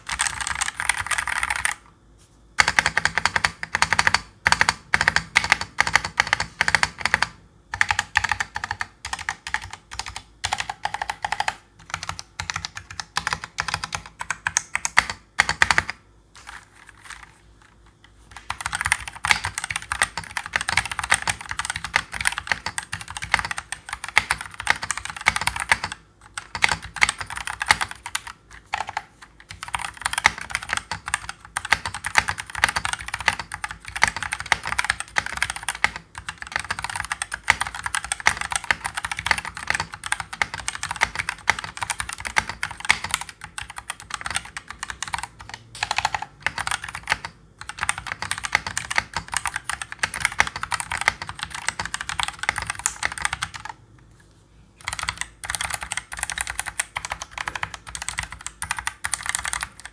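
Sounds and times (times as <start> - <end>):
fast typing on mechanical keyboard: 0.0 - 1.9, 2.6 - 53.8, 54.8 - 59.9.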